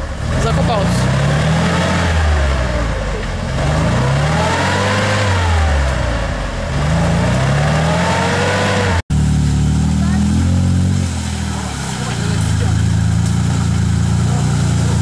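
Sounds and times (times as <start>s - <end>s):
engine revving: 0.0s - 15.0s
wheels churning through mud: 0.0s - 15.0s.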